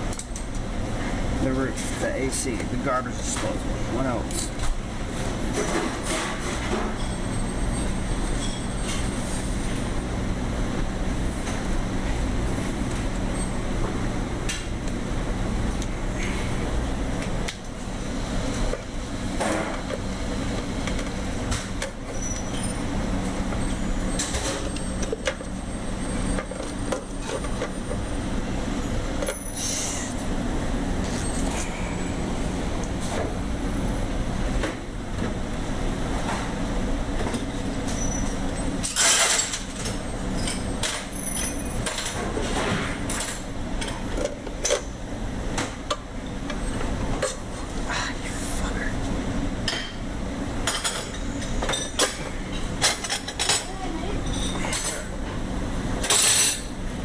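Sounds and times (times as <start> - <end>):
steady low machine hum: 0.0 - 57.0.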